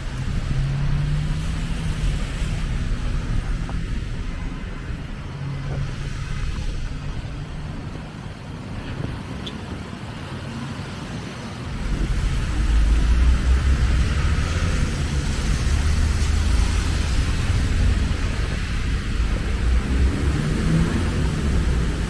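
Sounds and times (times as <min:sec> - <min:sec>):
heavy low rumble: 0:00.0 - 0:09.2, 0:11.7 - 0:22.0
road traffic noise: 0:00.0 - 0:22.0.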